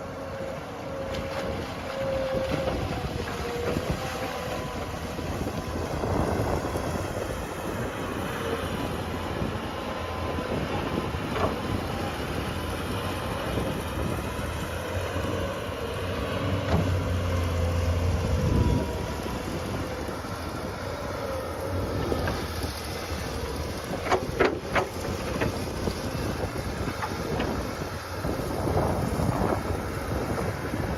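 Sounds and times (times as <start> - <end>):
heavy machine engine rumbling: 0.0 - 30.9.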